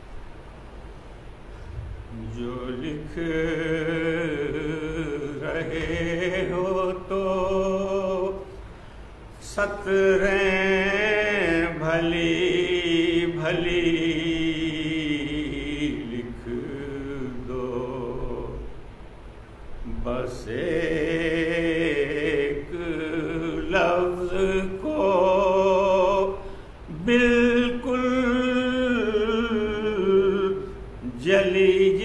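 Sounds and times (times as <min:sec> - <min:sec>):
man chanting a lament: 0:02.1 - 0:08.5, 0:09.4 - 0:18.7, 0:19.8 - 0:32.0.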